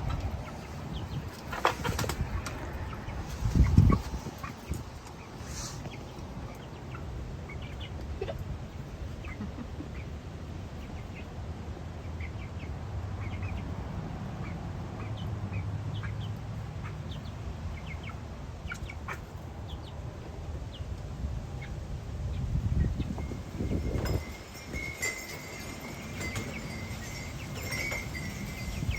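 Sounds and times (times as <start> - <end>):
chickens clucking and peeping: 0.0 - 28.9.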